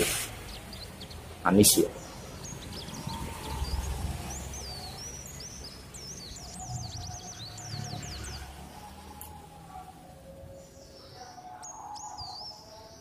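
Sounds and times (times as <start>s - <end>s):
small bird twittering: 0.0s - 13.0s.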